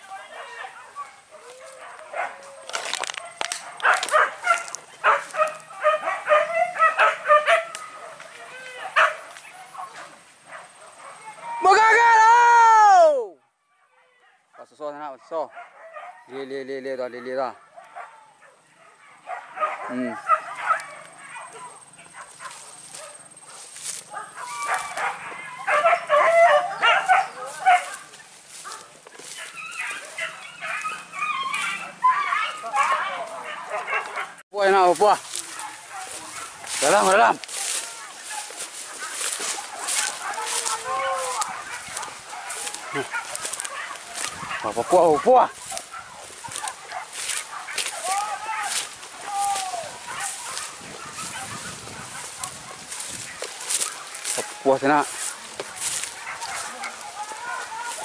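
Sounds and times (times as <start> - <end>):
dogs yelping and barking: 0.0 - 11.6, 14.4 - 16.4, 17.2 - 34.4, 35.0 - 58.0.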